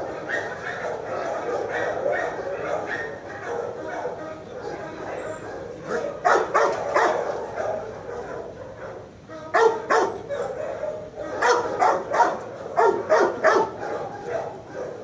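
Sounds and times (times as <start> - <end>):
dogs barking: 0.0 - 15.0.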